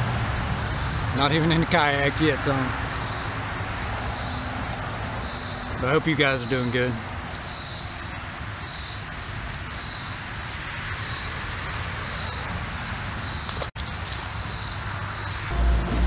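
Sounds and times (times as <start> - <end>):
insects calling in pulses: 0.0 - 15.5.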